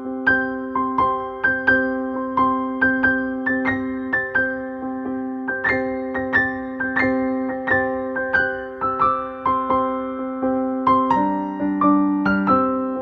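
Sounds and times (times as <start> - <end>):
gentle electric piano melody: 0.0 - 13.0.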